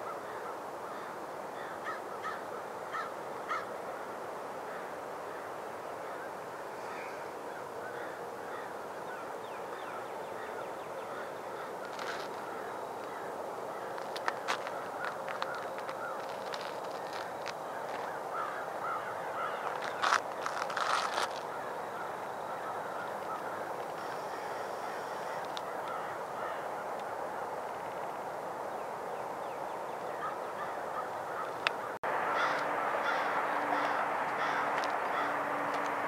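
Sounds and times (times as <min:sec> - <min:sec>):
waterbirds honking and cawing: 0:00.0 - 0:27.5, 0:29.9 - 0:36.0
gulls calling: 0:00.0 - 0:27.8, 0:29.2 - 0:36.0.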